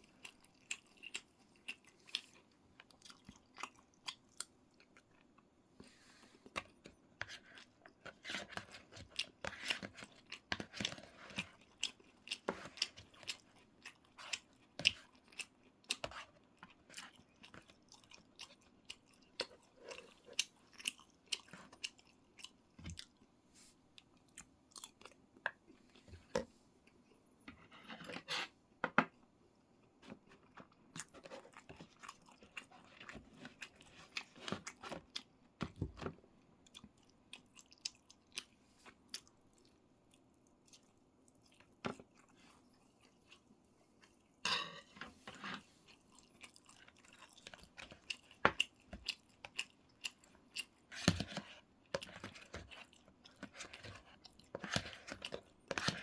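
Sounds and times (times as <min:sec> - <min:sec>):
person chewing and crunching: 0:00.0 - 0:05.5, 0:06.5 - 0:23.3, 0:24.0 - 0:27.2, 0:29.8 - 0:35.9, 0:36.5 - 0:44.8, 0:45.4 - 0:56.0.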